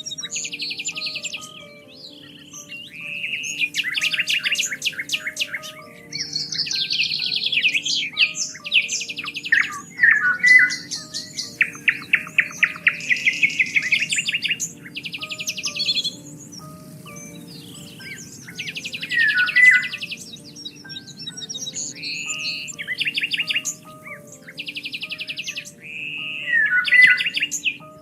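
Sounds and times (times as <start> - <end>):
soft background music: 0.0 - 28.0
songbirds singing: 0.0 - 28.0.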